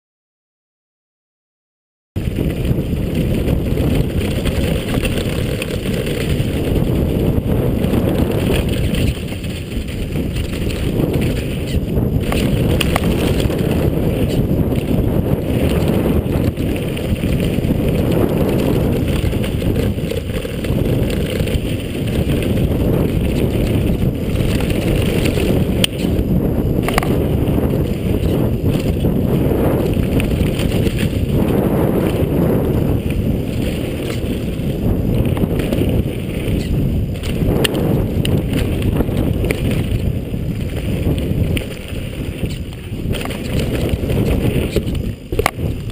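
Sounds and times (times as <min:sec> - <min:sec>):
bike rattling over bumps: 0:02.2 - 0:45.9
tyres on loose gravel: 0:02.2 - 0:45.9
wind buffeting microphone: 0:02.2 - 0:45.9.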